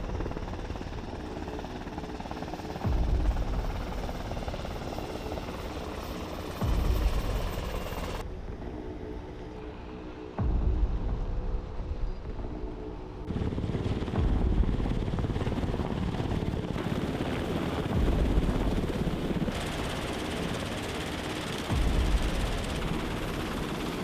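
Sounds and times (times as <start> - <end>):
helicopter rotor and engine: 0.0 - 24.0.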